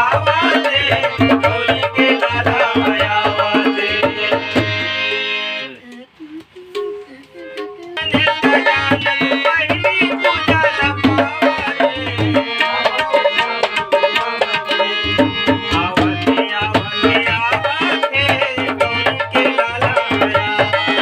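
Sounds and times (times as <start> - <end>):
tabla playing a rhythm: 0.0 - 5.7, 6.7 - 21.0
busy melody line: 0.0 - 5.8, 6.6 - 21.0.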